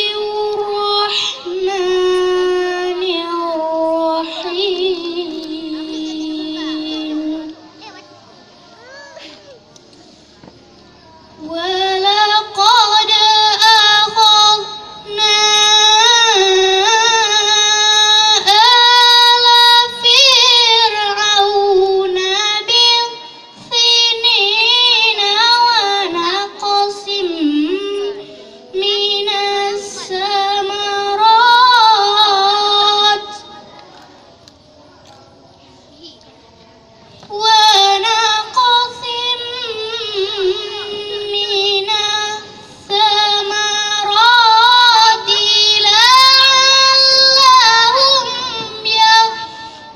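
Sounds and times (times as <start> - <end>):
girl chanting melodically: 0.0 - 9.7, 10.9 - 34.2, 37.0 - 49.9.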